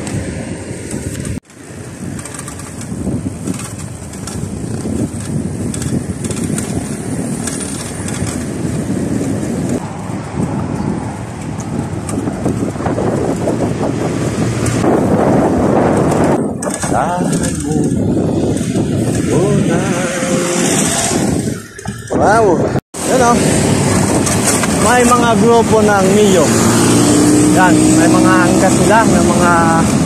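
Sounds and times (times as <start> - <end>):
bicycle road noise: 0.0 - 30.0
wind rushing over microphone: 0.0 - 30.0.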